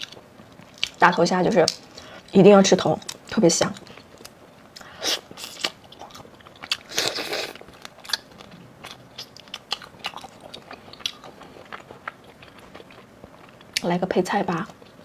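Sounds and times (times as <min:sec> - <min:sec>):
crunching and chewing prawn shell: 0:00.0 - 0:13.9.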